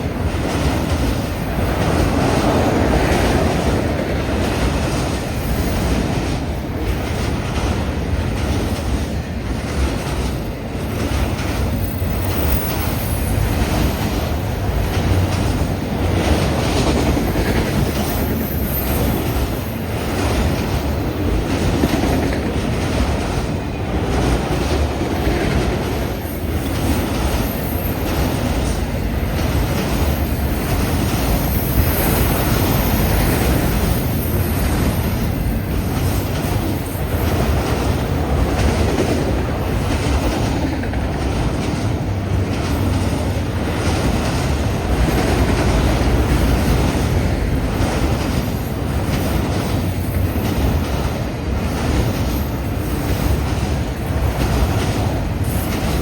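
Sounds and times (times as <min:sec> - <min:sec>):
freight train rumbling past: 0:00.0 - 0:56.0
wind buffeting microphone: 0:00.0 - 0:56.0.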